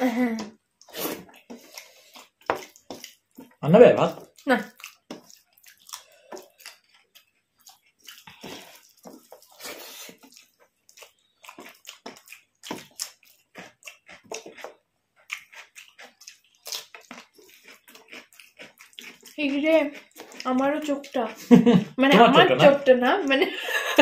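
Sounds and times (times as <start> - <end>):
wet chewing and lip-smacking: 0.3 - 23.4.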